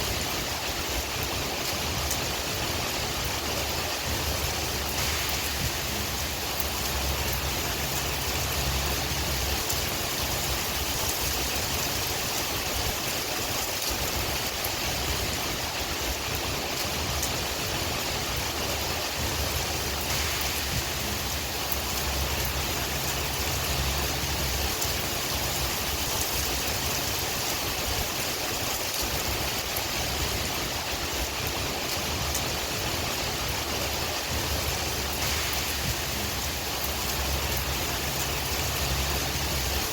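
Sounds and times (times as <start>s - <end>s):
low rumble of wind: 0.0s - 39.9s
steady rain falling: 0.0s - 39.9s.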